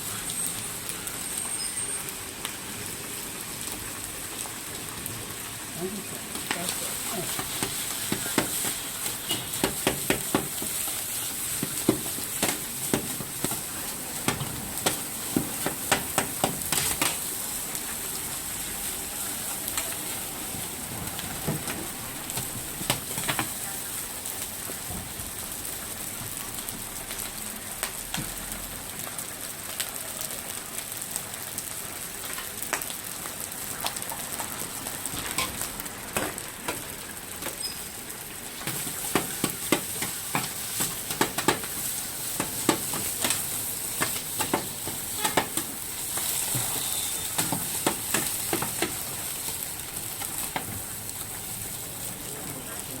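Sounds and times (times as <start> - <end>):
rice sizzling on a griddle: 0.0 - 53.0.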